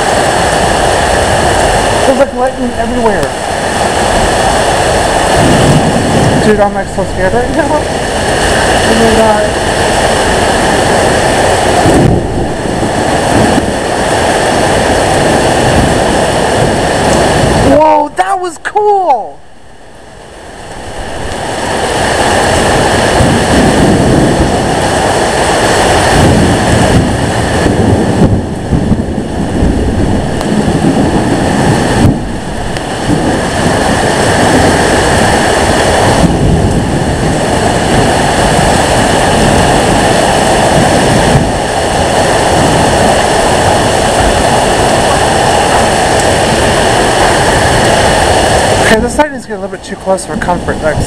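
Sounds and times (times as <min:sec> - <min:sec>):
heavy rain: 0:00.0 - 0:51.0
strong wind on microphone: 0:00.0 - 0:51.0.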